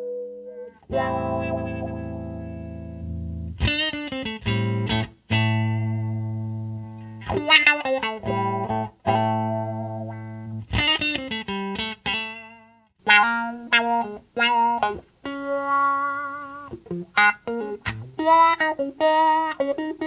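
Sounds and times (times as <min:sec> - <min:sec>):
electric guitar with wah pedal: 0:00.0 - 0:20.0.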